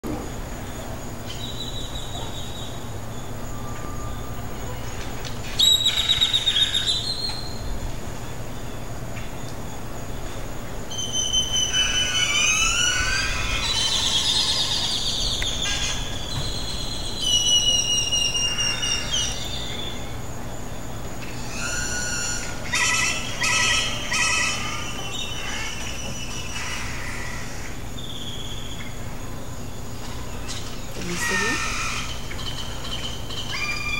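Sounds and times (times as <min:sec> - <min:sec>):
low steady hum: 0:00.0 - 0:33.9
birds calling and whistling: 0:00.1 - 0:33.9
high insect trill: 0:00.1 - 0:33.9.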